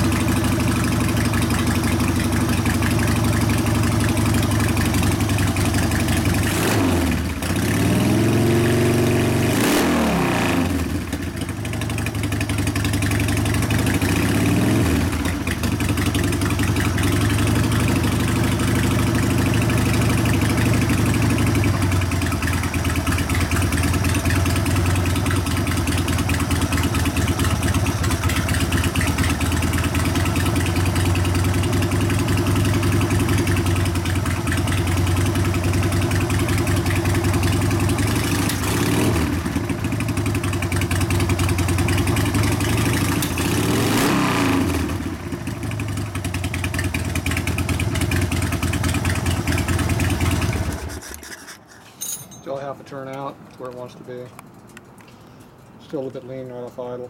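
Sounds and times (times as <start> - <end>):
motorcycle engine idling and revving: 0.0 - 51.2.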